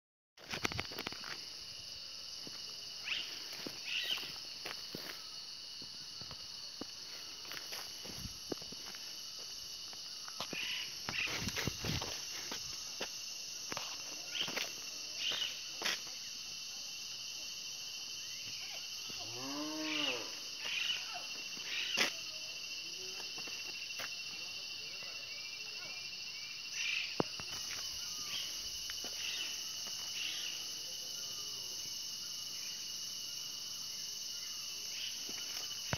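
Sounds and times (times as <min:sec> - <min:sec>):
crickets chirring: 0:00.4 - 0:35.9.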